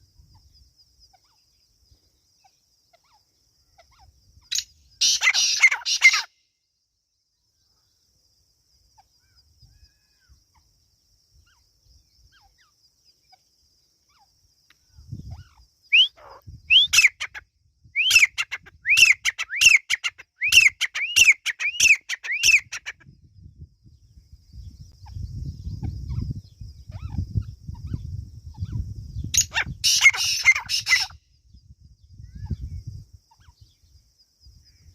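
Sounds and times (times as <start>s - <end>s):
francolin calling: 0.0s - 6.6s, 8.9s - 34.9s
high insect trill: 0.0s - 34.9s.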